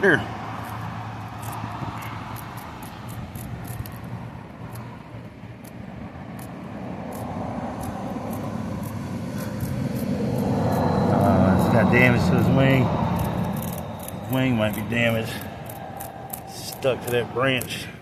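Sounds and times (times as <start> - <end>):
motor vehicle passing: 0.0 - 18.0.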